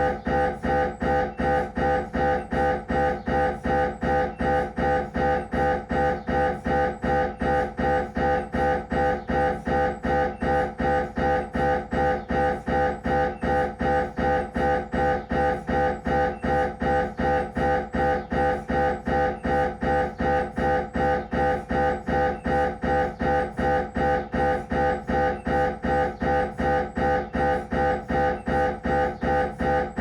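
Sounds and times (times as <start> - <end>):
mri scanner pulsing buzz: 0.0 - 30.0.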